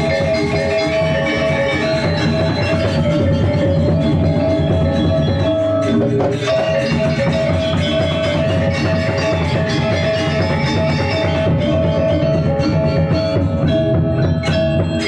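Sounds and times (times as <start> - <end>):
gamelan playing: 0.0 - 15.0.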